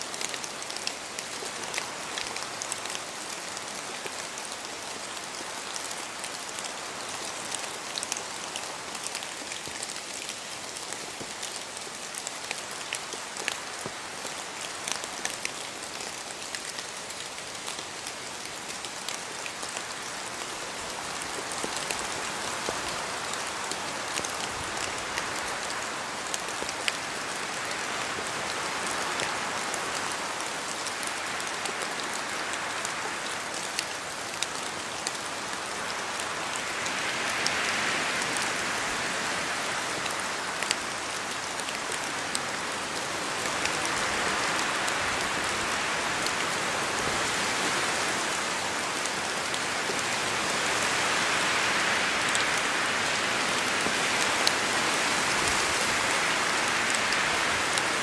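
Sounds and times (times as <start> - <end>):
rain falling on trees: 0.0 - 58.0
wind through trees: 0.0 - 58.0.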